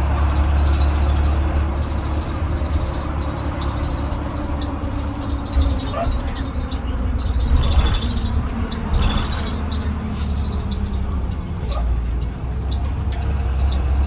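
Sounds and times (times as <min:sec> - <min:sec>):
bus engine and road rumble: 0:00.0 - 0:14.0
rattles and clicks: 0:02.1 - 0:14.0.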